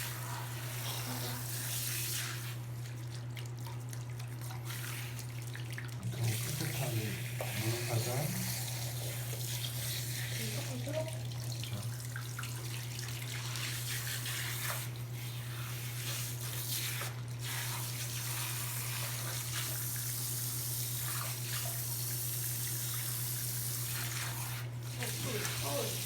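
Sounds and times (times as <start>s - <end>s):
tap water running: 0.0s - 26.0s.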